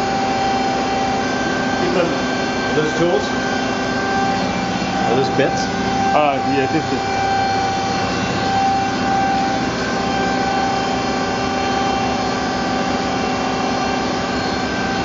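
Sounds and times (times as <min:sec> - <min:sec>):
milling machine humming and whining: 0:00.0 - 0:15.0.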